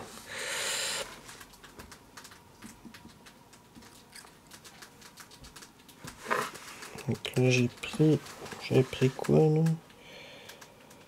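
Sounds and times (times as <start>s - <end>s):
fingers tapping thin wires: 1.2s - 11.0s.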